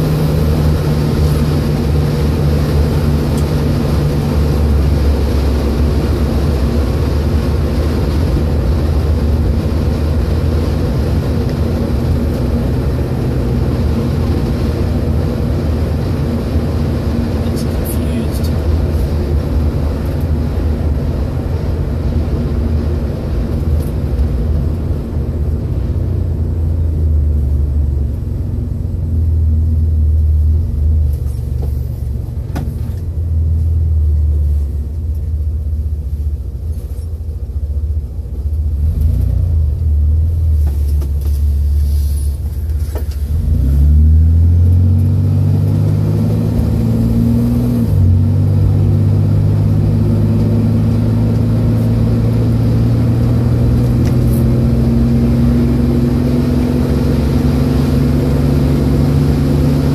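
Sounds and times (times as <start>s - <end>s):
car engine drone from cabin: 0.0s - 59.9s
road noise: 0.0s - 59.9s.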